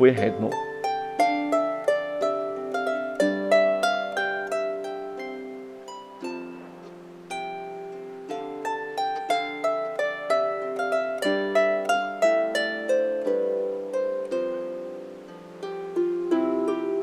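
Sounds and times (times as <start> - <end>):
harp plucked notes: 0.0 - 17.0.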